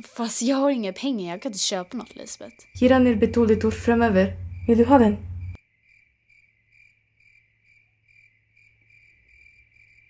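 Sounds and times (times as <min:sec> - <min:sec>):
crickets chirping: 0:00.2 - 0:10.0.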